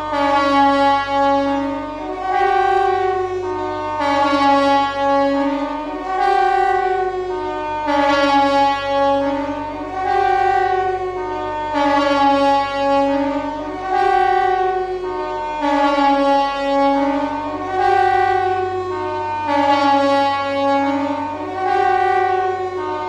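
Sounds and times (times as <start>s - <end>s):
compressed-air siren wailing: 0.0s - 23.0s.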